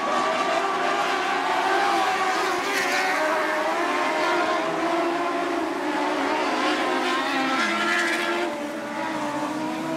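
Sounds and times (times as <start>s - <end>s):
race car engines: 0.0s - 9.9s.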